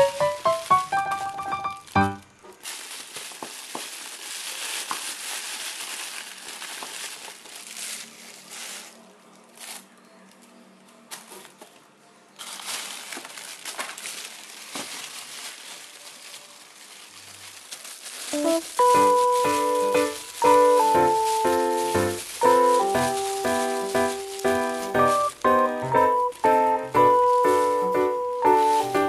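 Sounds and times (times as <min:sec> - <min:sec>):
plastic bag crinkling: 0:00.0 - 0:29.0.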